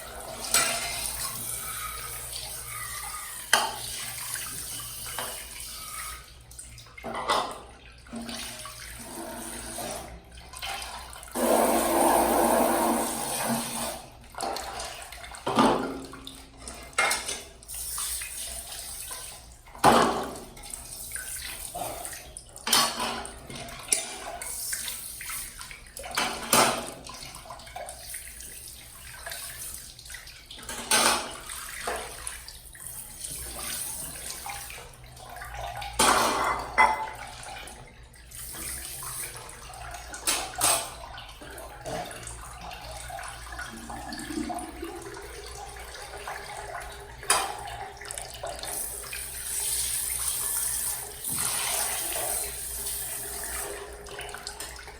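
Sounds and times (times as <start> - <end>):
tap water running into sink: 0.0 - 54.9.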